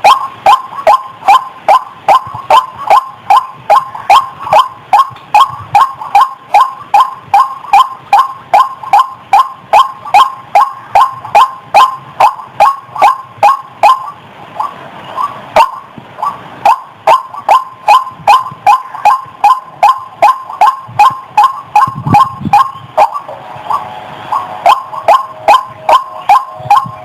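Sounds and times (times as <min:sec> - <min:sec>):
waterhen calling: 0:00.0 - 0:27.0.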